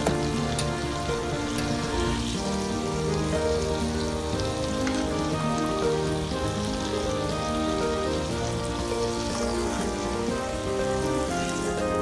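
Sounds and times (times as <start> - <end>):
background music: 0.0 - 12.0
steaks sizzling in a frying pan: 0.0 - 12.0.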